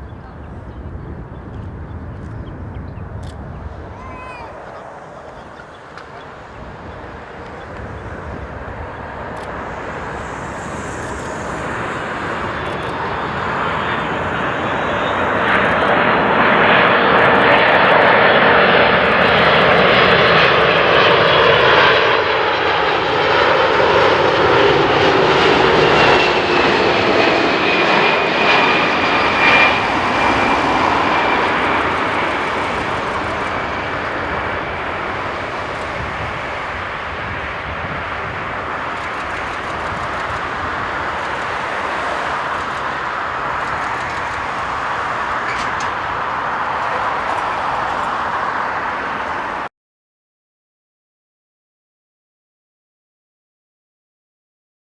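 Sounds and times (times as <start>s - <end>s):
jet passing low overhead: 0.0s - 49.7s.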